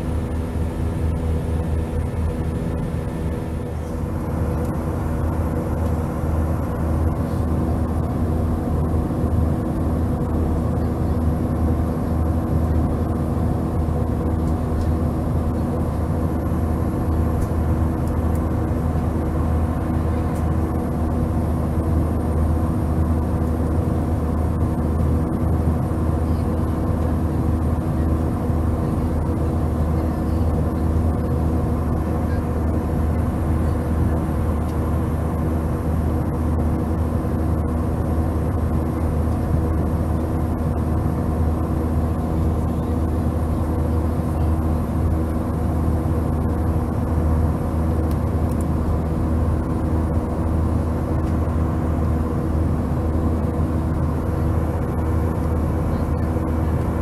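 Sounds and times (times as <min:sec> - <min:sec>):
jet airliner cabin drone: 0:00.0 - 0:57.0.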